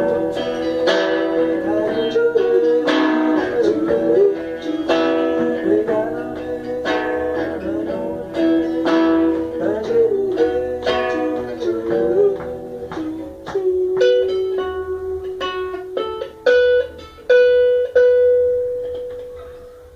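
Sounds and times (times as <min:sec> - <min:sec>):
sliding melody line: 0:00.0 - 0:18.8
strummed guitar chords: 0:00.0 - 0:19.9.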